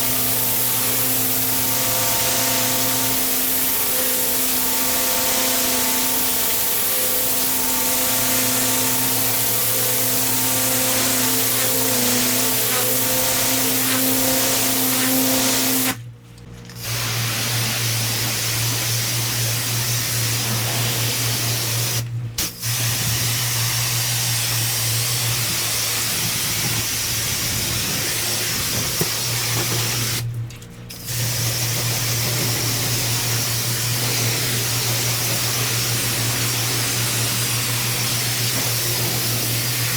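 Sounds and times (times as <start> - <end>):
pressure washer water hiss: 0.0 - 16.0, 16.8 - 30.2, 31.0 - 39.9
pressure washer motor hum: 0.0 - 39.9.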